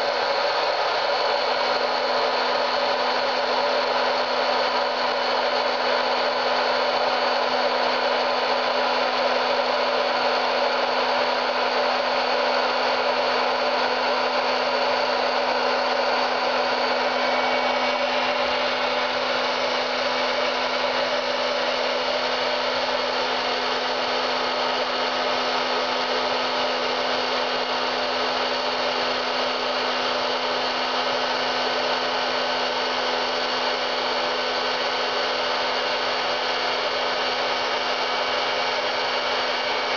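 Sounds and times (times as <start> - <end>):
popcorn maker fan whirring: 0.0 - 39.9.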